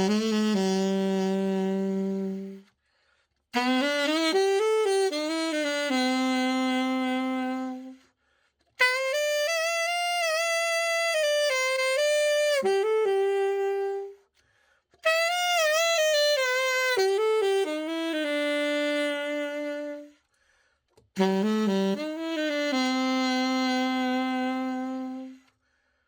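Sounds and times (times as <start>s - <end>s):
solo alto saxophone: 0.0s - 26.0s.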